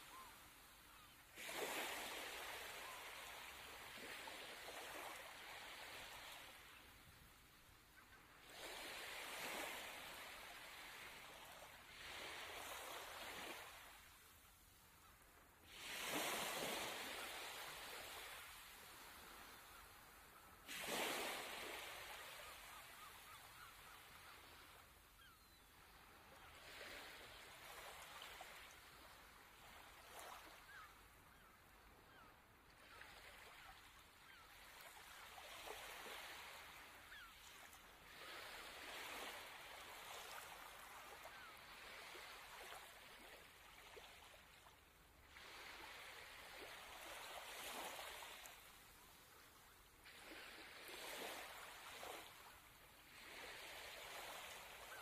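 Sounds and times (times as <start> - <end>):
small waves lapping on beach: 0.0 - 55.0.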